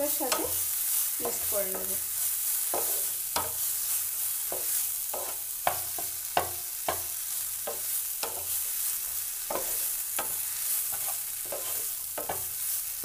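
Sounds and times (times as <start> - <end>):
oil sizzling: 0.0 - 13.0
wooden spatula scraping a pan: 0.0 - 13.0.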